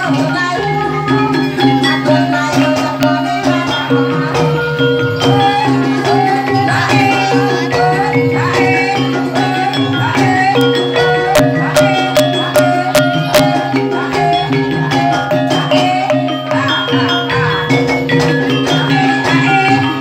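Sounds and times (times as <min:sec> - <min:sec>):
melodic tuned instruments: 0:00.0 - 0:20.0
sharp percussion strokes: 0:00.0 - 0:20.0.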